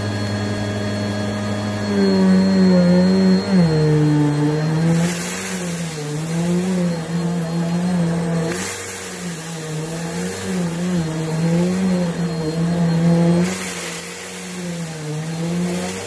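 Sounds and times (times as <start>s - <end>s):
upright vacuum running on carpet: 0.0s - 16.0s.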